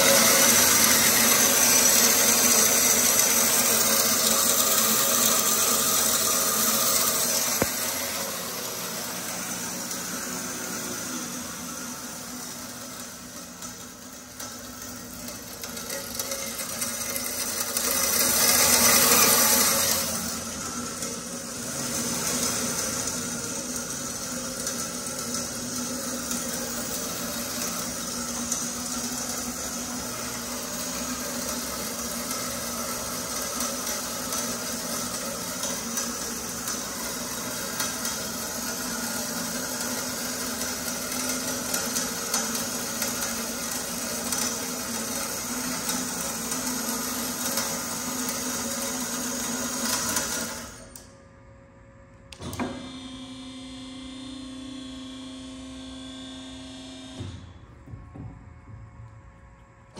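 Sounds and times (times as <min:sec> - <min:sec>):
metal bandsaw running: 0:00.0 - 0:51.0.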